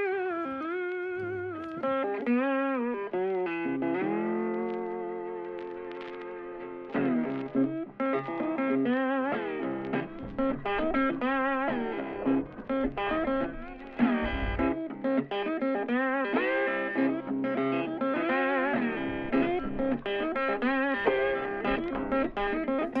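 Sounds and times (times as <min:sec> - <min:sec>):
guitar melody with bent notes: 0:00.0 - 0:23.0.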